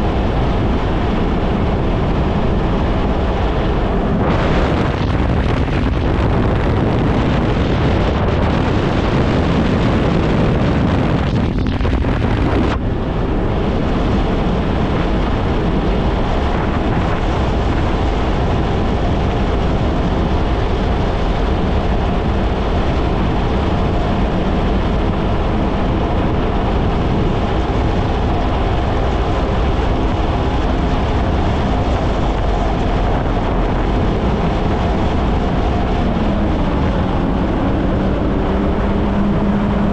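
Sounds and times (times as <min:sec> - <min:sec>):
jet ski engine running: 0:00.0 - 0:39.9
wind buffeting microphone: 0:00.0 - 0:39.9.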